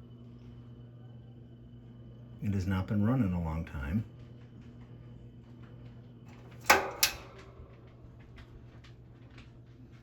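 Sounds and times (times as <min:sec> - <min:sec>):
fan motor humming: 0:00.0 - 0:10.0.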